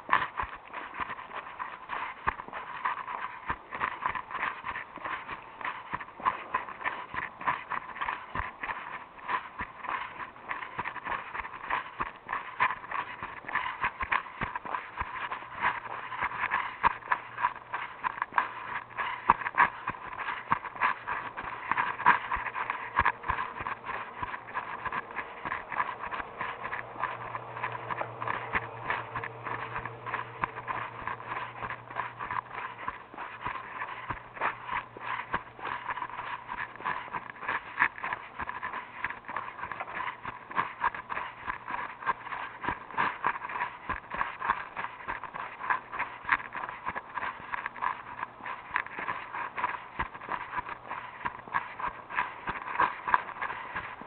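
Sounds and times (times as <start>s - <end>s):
footsteps walking: 0.0s - 54.0s
low steady hum: 0.0s - 54.0s.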